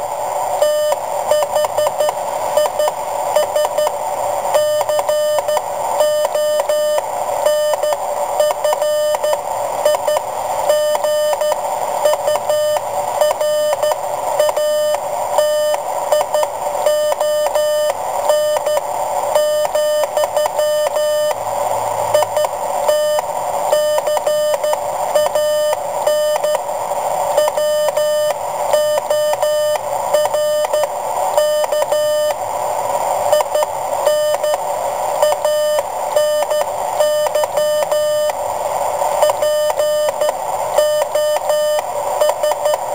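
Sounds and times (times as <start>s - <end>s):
morse code beeps: 0.6s - 3.9s, 4.5s - 21.4s, 22.1s - 26.6s, 27.4s - 32.4s, 33.3s - 34.6s, 35.2s - 38.4s, 39.2s - 42.8s.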